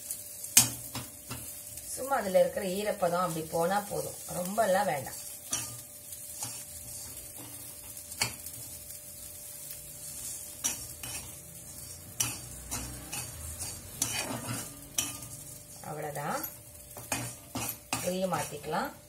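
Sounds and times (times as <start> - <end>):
sizzling: 0.0 - 19.0
spatula scraping salt in pan: 2.9 - 19.0.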